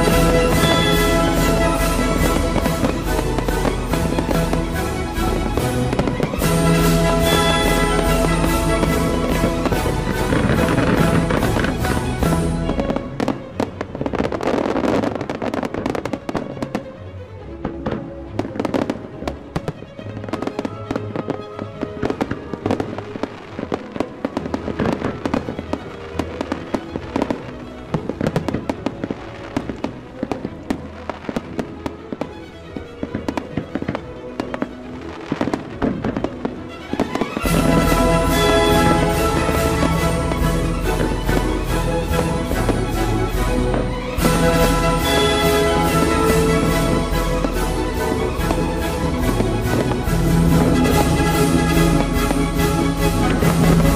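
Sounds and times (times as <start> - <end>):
fireworks bangs and pops: 0.0 - 16.9, 17.6 - 53.9
music: 0.0 - 53.9.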